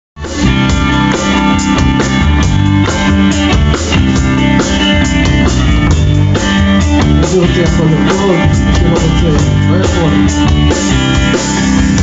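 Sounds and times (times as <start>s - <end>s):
drum kit steady beat: 0.2s - 12.0s
guitar: 0.2s - 12.0s.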